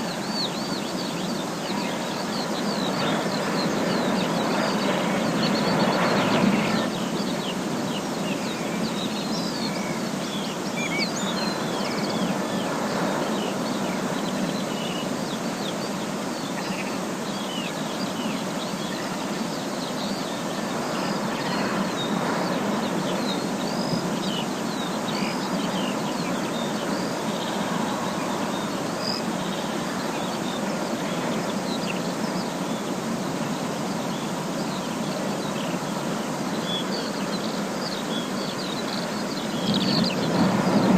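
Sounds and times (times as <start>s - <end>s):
small birds chirping: 0.0s - 40.9s
steady rushing noise: 0.0s - 40.9s.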